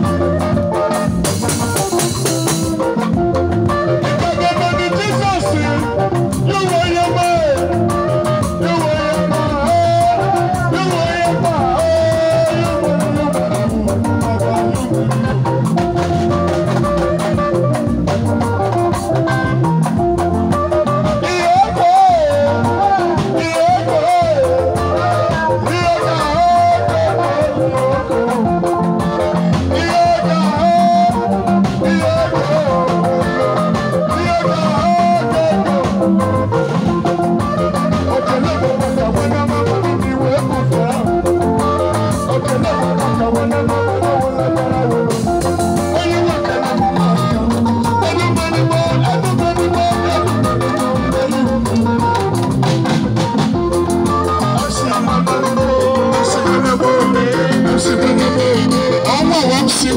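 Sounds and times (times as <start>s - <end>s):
live band with electric guitar: 0.0s - 59.9s
man singing into microphone: 0.0s - 59.9s.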